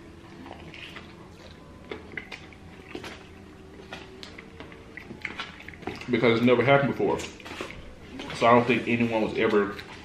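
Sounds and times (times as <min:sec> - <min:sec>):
chewing: 0:00.0 - 0:10.0
faint steady hum: 0:00.0 - 0:10.0.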